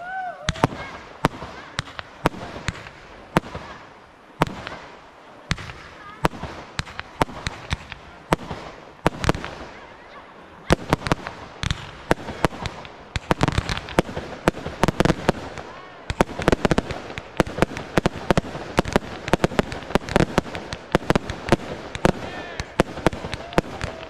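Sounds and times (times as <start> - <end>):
firework bangs: 0.0 - 24.0
firework hiss: 0.0 - 24.0.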